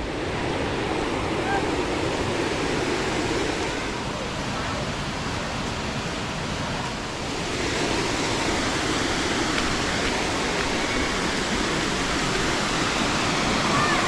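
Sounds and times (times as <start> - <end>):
waterfall and river rushing: 0.0 - 14.0.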